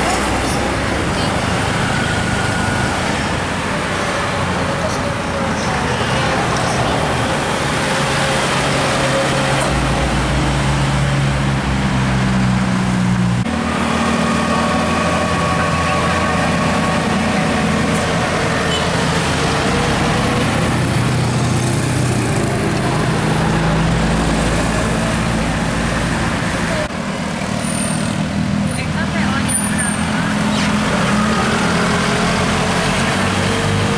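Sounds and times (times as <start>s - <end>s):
heavy diesel vehicles climbing: 0.0s - 33.9s.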